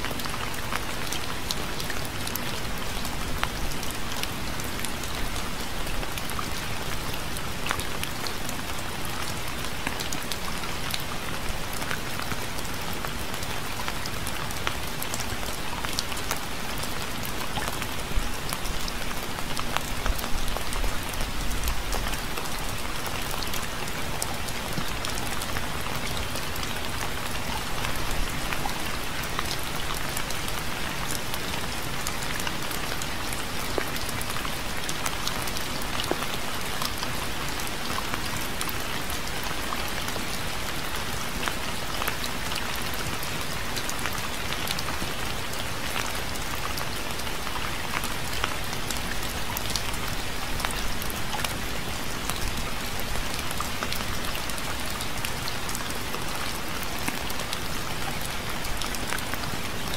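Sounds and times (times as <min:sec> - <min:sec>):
rain pattering on hard surface: 0:00.0 - 0:59.9.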